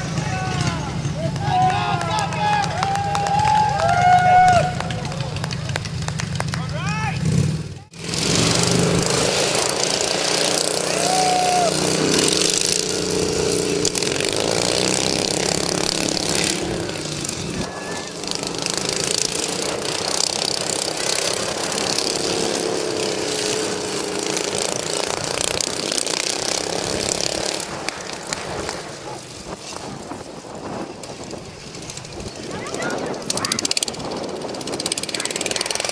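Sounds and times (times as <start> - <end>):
lawn tractor engines racing: 0.0 - 35.9.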